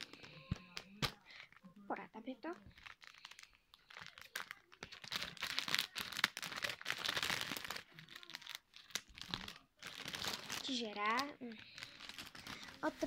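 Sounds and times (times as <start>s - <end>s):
plastic bag crinkling: 0.0s - 1.6s, 2.4s - 13.0s.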